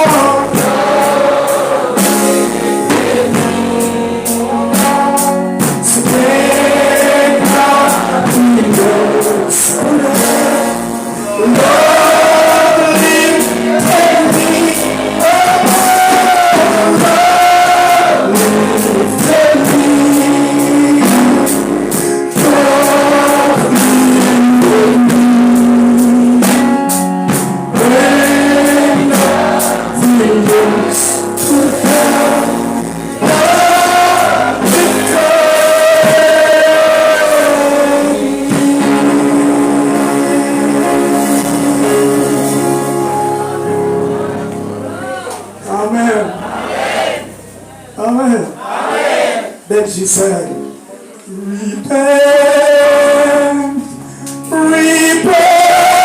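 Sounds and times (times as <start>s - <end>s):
choir singing gospel song: 0.0s - 50.0s, 51.3s - 56.0s
instrumental backing: 0.0s - 56.0s.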